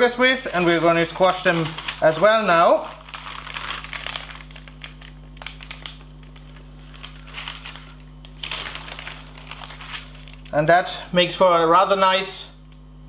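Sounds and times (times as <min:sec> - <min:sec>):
parchment paper crinkling: 0:00.0 - 0:10.6.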